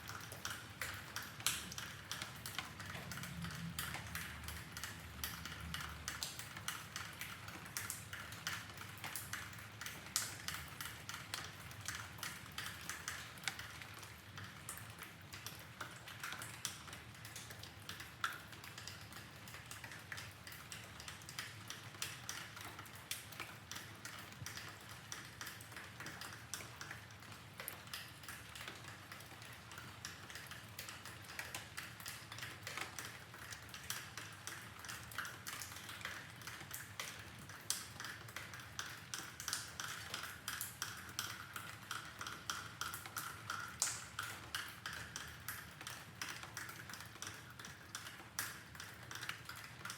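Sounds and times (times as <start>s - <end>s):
raindrops tapping and pinging: 0.0s - 49.9s.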